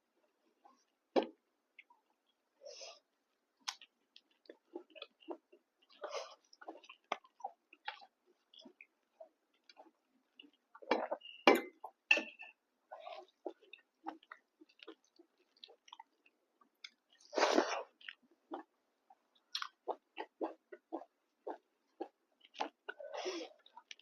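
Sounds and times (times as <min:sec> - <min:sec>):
person chewing food: 0:01.7 - 0:12.1, 0:12.9 - 0:24.0.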